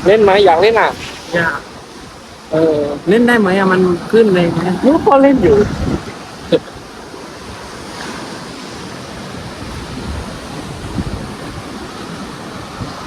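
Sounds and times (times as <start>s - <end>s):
sea waves washing onto beach: 0.0s - 13.0s
wind on microphone: 0.0s - 13.0s.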